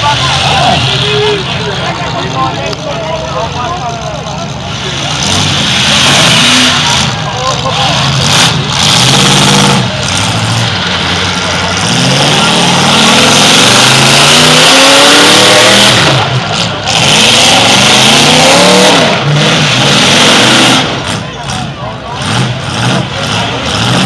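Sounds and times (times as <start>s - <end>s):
car engines revving hard: 0.0s - 24.0s.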